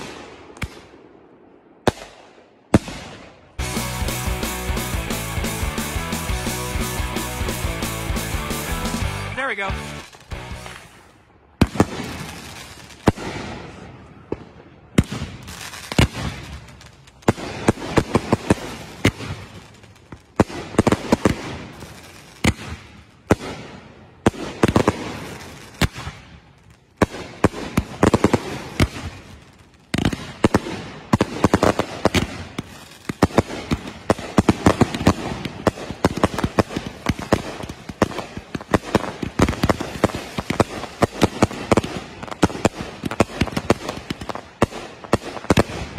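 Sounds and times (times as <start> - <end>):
fireworks launching and bursting: 0.0 - 45.9.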